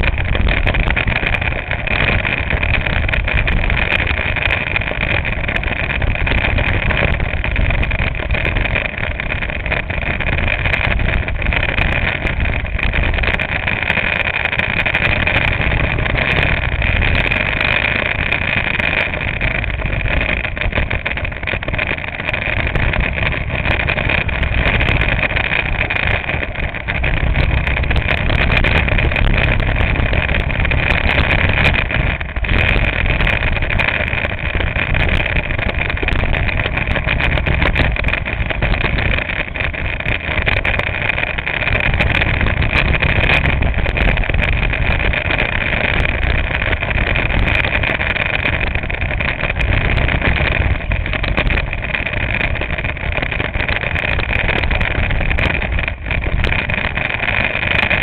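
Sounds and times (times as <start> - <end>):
go-kart engine droning: 0.0 - 58.0.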